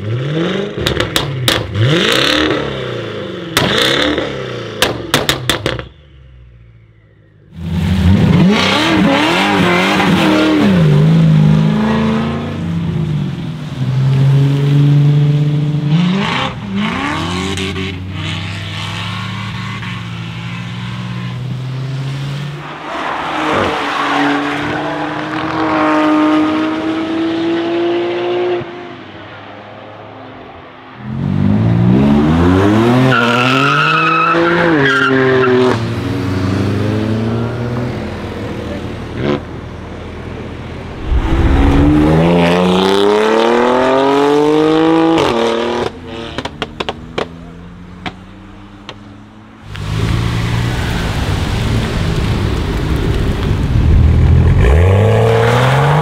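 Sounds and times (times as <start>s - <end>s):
car engines revving hard: 0.0s - 5.8s, 7.6s - 28.7s, 31.0s - 48.2s, 54.3s - 56.0s.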